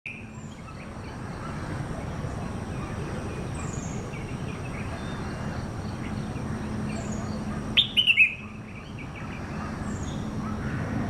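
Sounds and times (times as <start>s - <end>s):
bird chirping: 0.1s - 10.5s.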